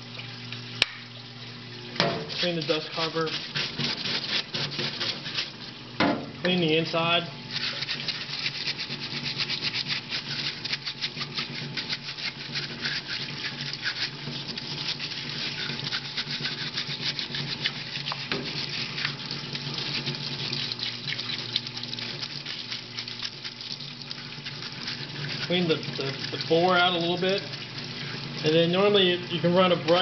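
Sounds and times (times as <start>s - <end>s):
pump humming: 0.0s - 30.0s
brush scrubbing metal: 2.3s - 5.6s, 7.5s - 29.0s.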